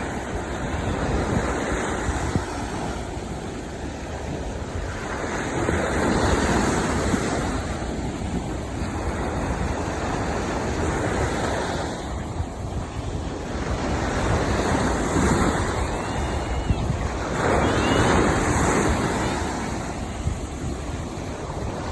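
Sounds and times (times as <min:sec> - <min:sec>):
sea waves breaking on beach: 0:00.0 - 0:21.9
wind rumbling on microphone: 0:00.0 - 0:21.9.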